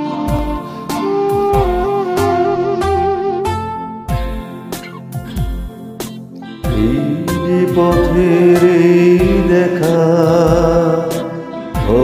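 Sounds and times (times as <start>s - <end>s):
instrumental backing music: 0.0s - 12.0s.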